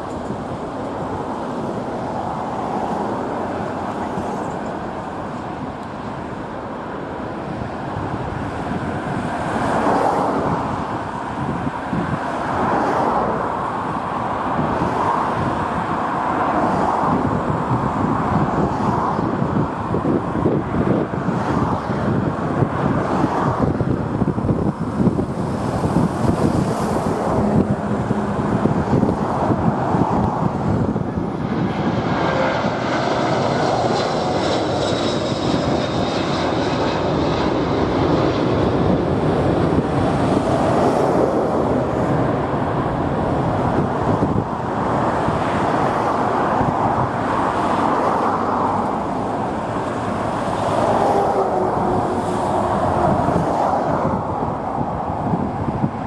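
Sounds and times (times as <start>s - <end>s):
road traffic passing: 0.0s - 56.0s
wind buffeting microphone: 0.0s - 56.0s.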